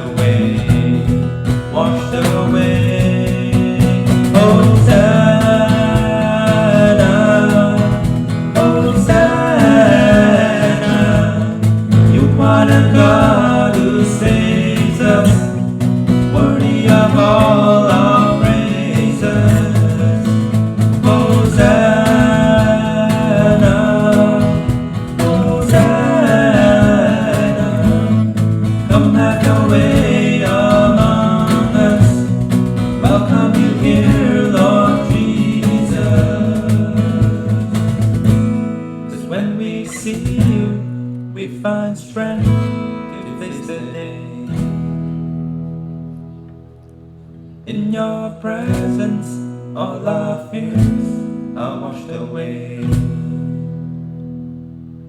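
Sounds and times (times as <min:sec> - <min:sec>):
person singing worship song: 0:00.0 - 0:44.8, 0:47.6 - 0:53.5
acoustic guitar: 0:00.0 - 0:55.0.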